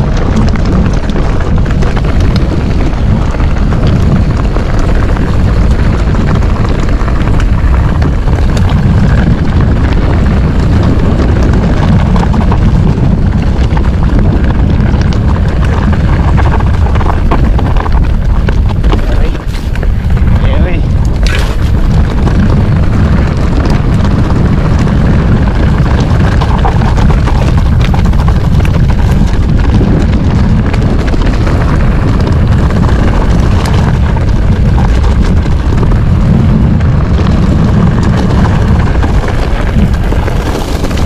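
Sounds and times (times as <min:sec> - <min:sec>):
bike tyres clattering over ground: 0:00.0 - 0:41.0
low rumble: 0:00.0 - 0:41.0
wind buffeting microphone: 0:00.0 - 0:41.0.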